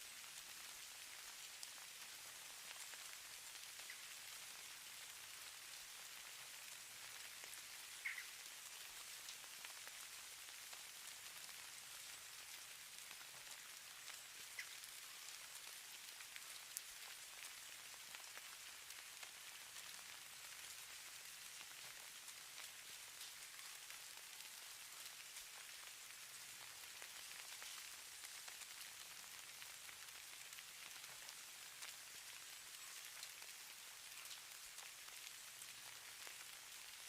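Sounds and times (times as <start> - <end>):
snowflakes ticking: 6.8 - 37.0.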